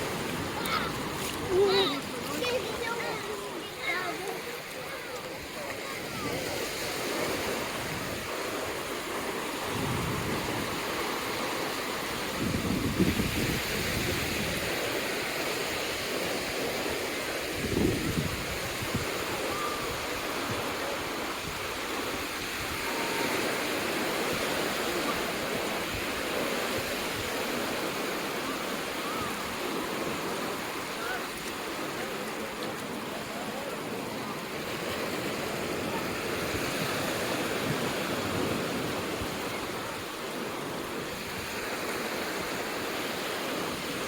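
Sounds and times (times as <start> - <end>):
ocean surf washing onto beach: 0.0 - 44.0.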